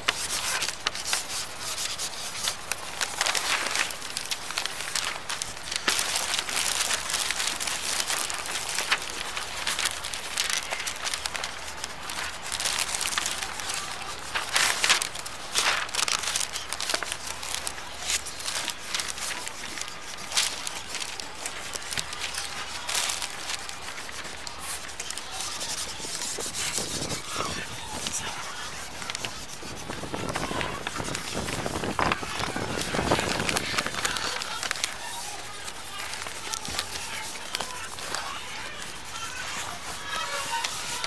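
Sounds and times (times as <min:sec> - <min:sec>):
drawing tool scratching paper: 0:00.0 - 0:41.0.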